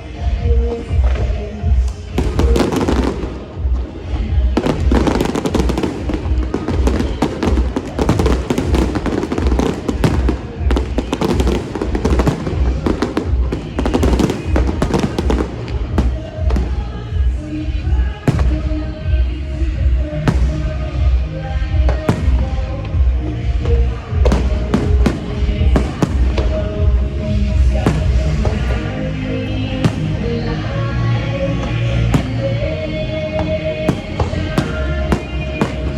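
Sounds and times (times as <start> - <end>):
fireworks bursting and crackling: 0.0 - 35.9
loud show music with bass beat: 0.0 - 35.9.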